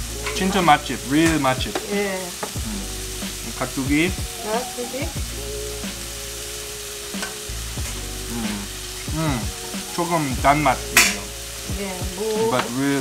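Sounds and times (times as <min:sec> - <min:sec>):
meat sizzling on grill plate: 0:00.0 - 0:13.0.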